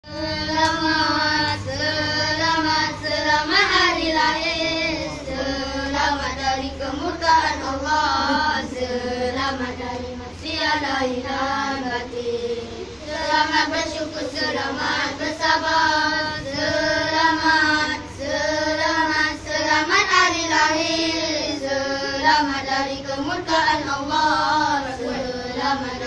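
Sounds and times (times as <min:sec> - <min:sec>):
children singing in unison: 0:00.0 - 0:26.0.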